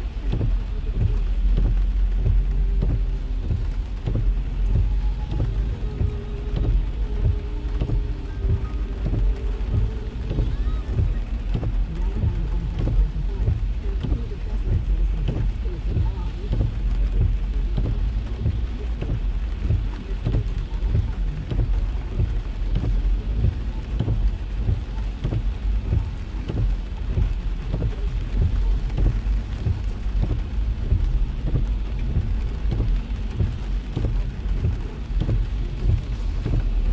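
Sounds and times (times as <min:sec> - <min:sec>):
heavy rain drumming on car roof: 0:00.0 - 0:36.9
moving car rumble: 0:00.0 - 0:36.9.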